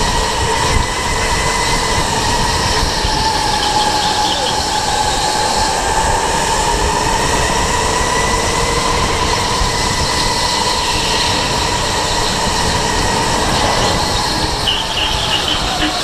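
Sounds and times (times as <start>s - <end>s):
electric motor whine: 0.0s - 16.0s
rumbling tyre and chassis noise: 0.0s - 16.0s.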